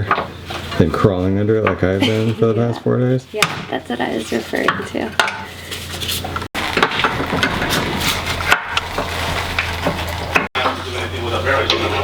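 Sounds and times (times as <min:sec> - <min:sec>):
hand tools clattering and scraping: 0:00.0 - 0:02.8, 0:03.5 - 0:12.0.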